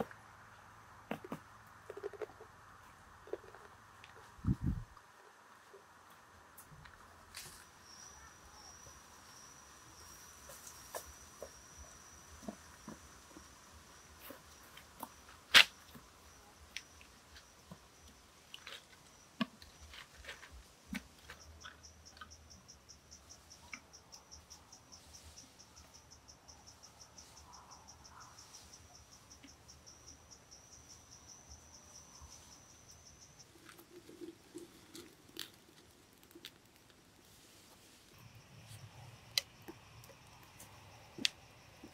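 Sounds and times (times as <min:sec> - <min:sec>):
insects chirping in a trill: 0:05.6 - 0:41.9.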